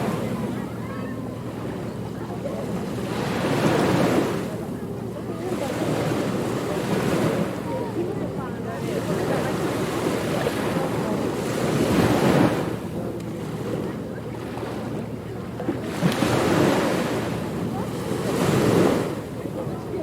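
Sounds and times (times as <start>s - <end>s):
ocean waves washing ashore: 0.0s - 20.0s.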